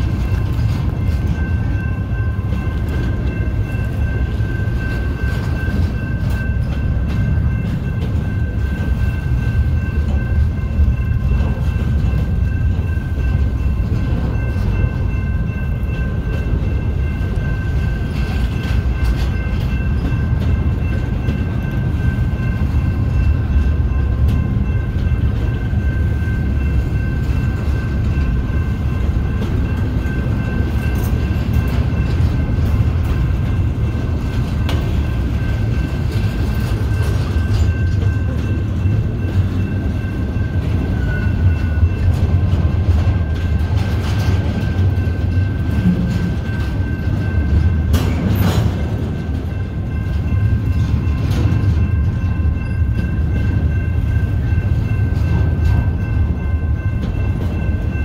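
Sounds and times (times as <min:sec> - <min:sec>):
high steady ringing: 0:00.0 - 0:58.0
steel wheels rumbling on rail: 0:00.0 - 0:58.0
train cars clanking: 0:00.0 - 0:58.0.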